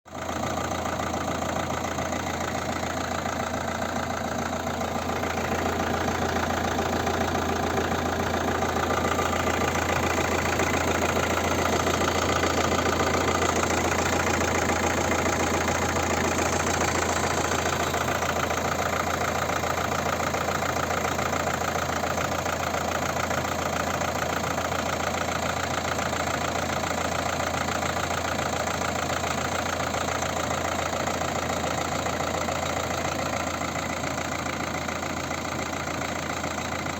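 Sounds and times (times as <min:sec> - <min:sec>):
car engine idling with knocking: 0:00.1 - 0:36.9.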